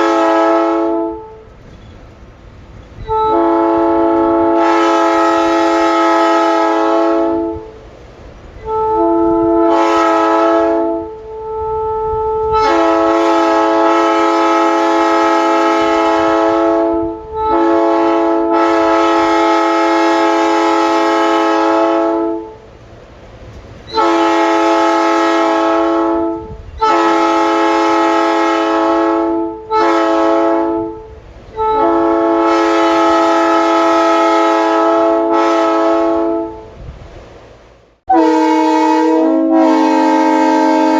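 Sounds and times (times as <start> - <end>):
locomotive air horn blasts: 0.0 - 1.6, 3.0 - 7.8, 8.6 - 22.7, 23.9 - 36.9, 38.1 - 40.9.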